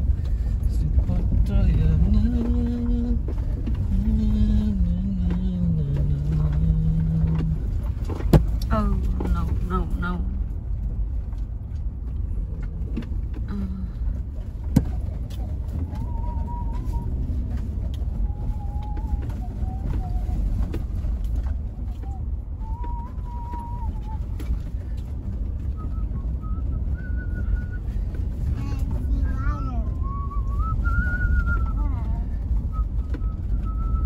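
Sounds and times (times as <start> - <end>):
engine and tyres rumbling: 0.0 - 34.0.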